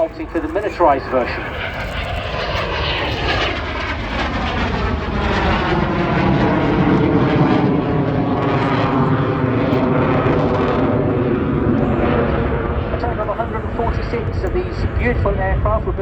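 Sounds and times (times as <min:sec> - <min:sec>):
jet roar and whine passing: 0:00.0 - 0:16.0.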